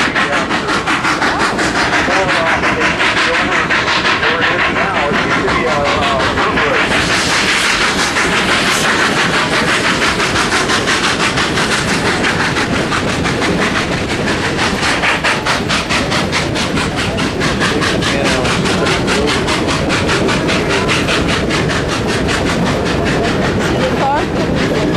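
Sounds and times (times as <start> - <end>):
steam train chuffing: 0.0 - 24.9
train rumbling: 0.0 - 24.9.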